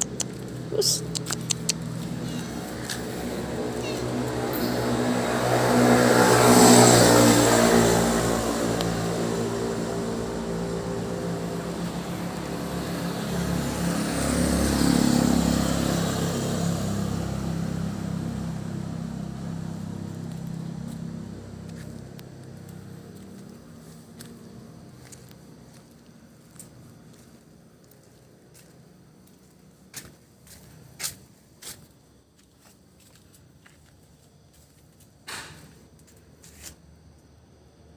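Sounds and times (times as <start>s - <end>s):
motor vehicles passing: 0.0s - 36.8s.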